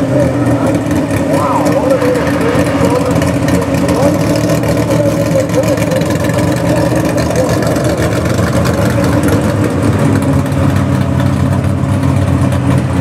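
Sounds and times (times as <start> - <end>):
truck engine running at high revs: 0.0 - 13.0.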